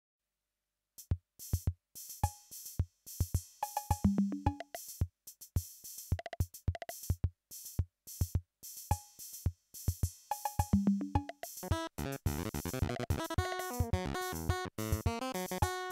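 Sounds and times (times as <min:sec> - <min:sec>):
drum machine rhythm: 0:01.0 - 0:15.9.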